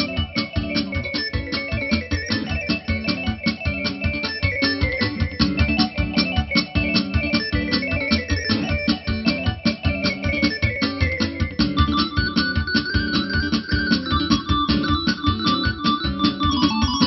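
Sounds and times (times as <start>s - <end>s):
electronic keyboard music: 0.0s - 17.0s.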